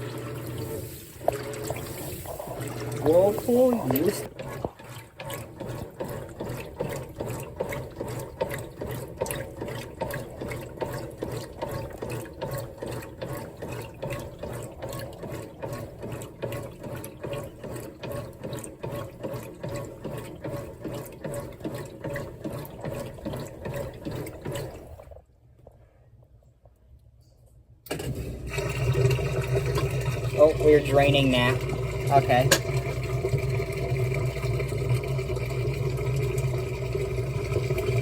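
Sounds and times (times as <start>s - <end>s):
washing machine agitator sloshing: 0.0s - 25.3s, 27.9s - 38.0s.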